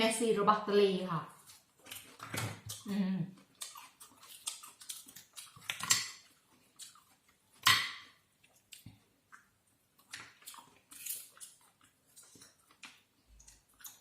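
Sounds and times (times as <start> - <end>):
person eating seafood by hand: 1.4 - 14.0.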